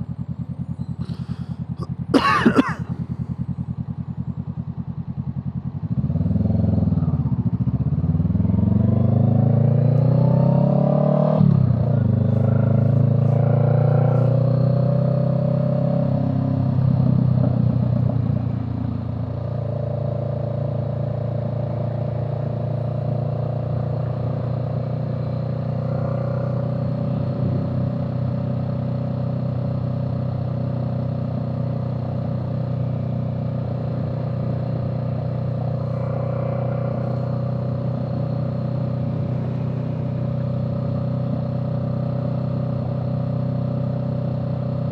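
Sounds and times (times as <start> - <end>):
vehicle engine accelerating: 0.0 - 2.1, 2.7 - 44.9.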